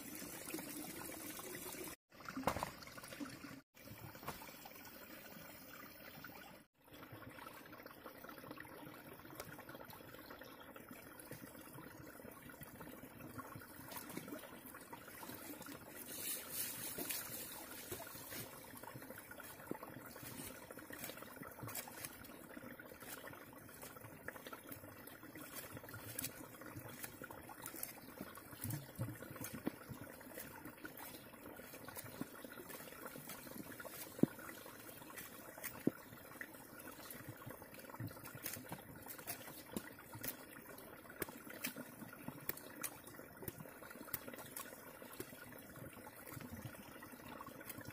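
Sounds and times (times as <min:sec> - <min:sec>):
trickling water background: 0:00.0 - 0:47.9.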